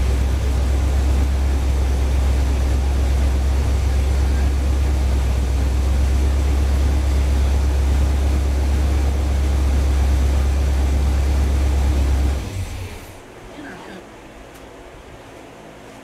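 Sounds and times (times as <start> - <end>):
car engine idling: 0.0 - 13.3.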